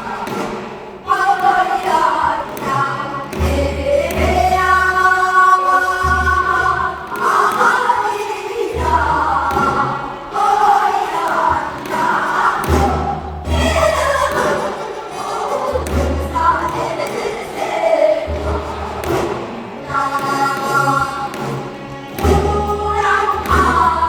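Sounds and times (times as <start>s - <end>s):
folk singing voices: 0.0s - 24.0s
low musical accompaniment: 0.0s - 24.0s.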